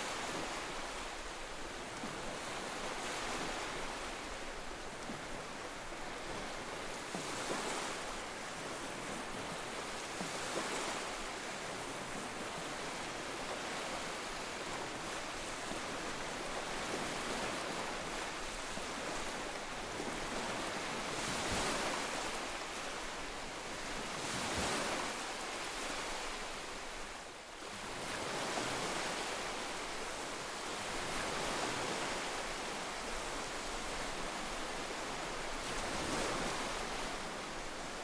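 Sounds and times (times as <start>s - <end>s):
surf washing over rocks: 0.0s - 38.0s.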